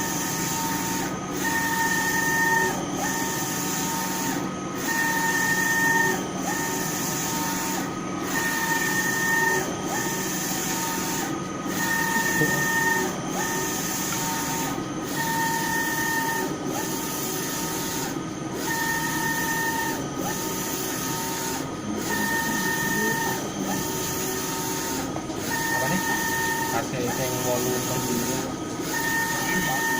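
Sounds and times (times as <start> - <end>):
printer carriage motor whine: 0.0 - 29.9.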